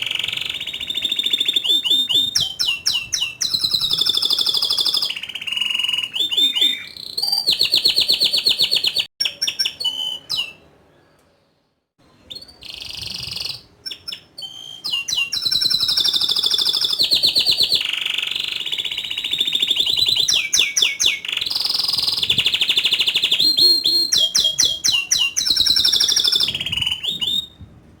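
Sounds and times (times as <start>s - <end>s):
canary singing trills and chirps: 0.0s - 11.2s, 12.1s - 27.6s.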